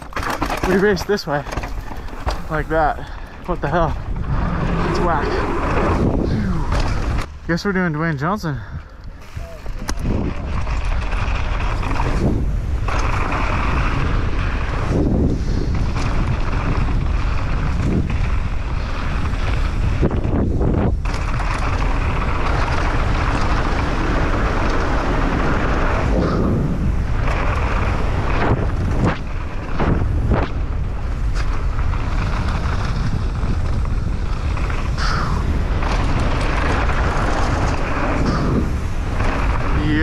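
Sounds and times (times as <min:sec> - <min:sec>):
bike tyres rattling over ground: 0:00.0 - 0:40.0
wind rushing over microphone: 0:00.0 - 0:40.0.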